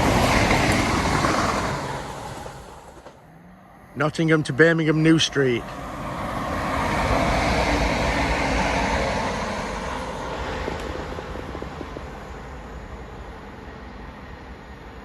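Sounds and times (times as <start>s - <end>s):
passenger train passing: 0.0s - 15.0s.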